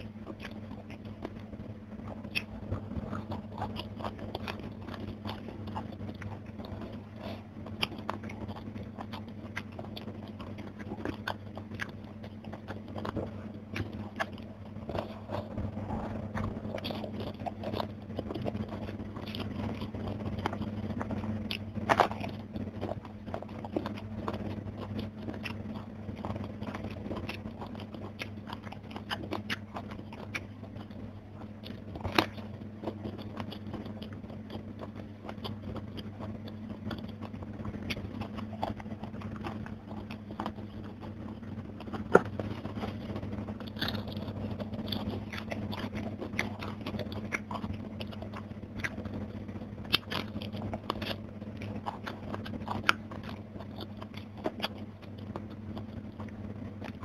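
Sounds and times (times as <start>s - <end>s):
chewing and crunching food: 0.0s - 57.0s
low steady hum: 0.0s - 57.0s.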